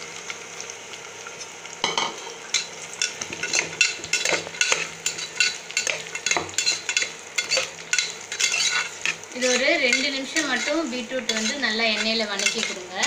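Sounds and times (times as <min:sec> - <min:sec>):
beetroot sizzling in hot oil: 0:00.0 - 0:13.0
spoon scraping against pot: 0:02.5 - 0:13.0.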